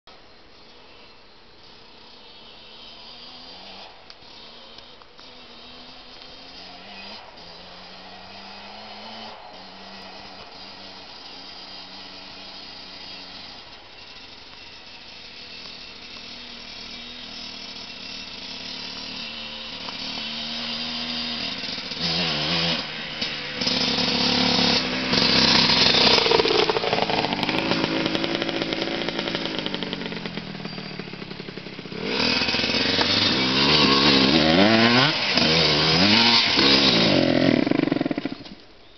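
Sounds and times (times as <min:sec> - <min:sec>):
dirt bike engine revving: 0:01.6 - 0:38.6.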